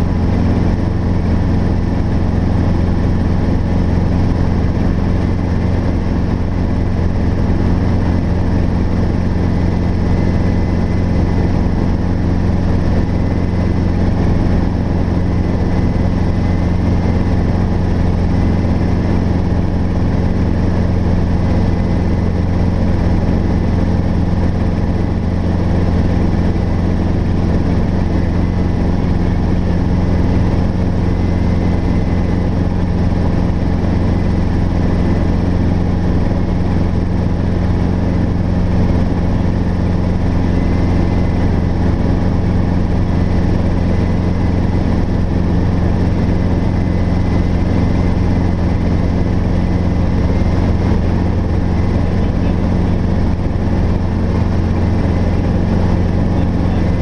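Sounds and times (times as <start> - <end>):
helicopter engine and rotors humming: 0.0 - 57.0.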